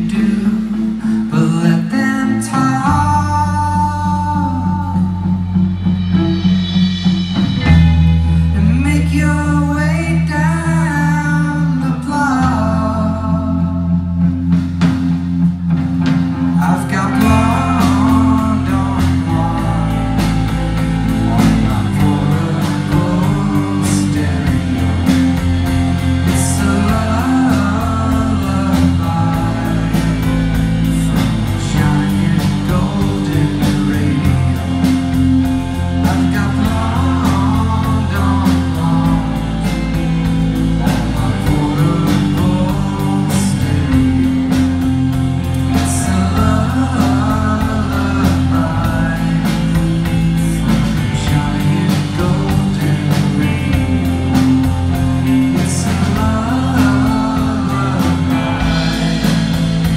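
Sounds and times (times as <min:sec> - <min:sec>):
man singing: 0:00.0 - 0:06.3, 0:07.6 - 0:14.4, 0:16.4 - 0:59.9
drum kit: 0:00.0 - 0:59.9
electric guitar: 0:00.0 - 0:59.9.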